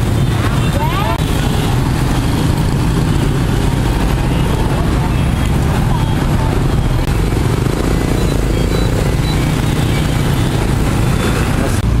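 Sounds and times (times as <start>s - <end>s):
motorbike traffic passing: 0.0s - 12.0s.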